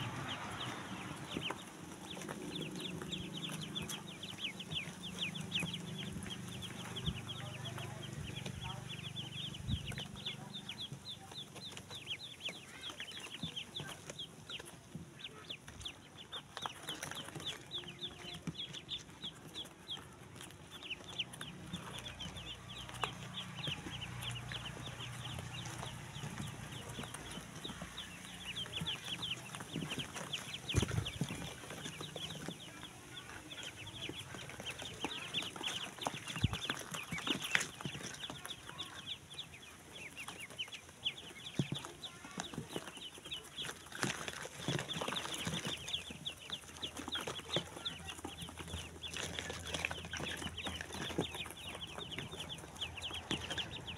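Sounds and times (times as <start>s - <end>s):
ducklings peeping: 0.0s - 53.9s.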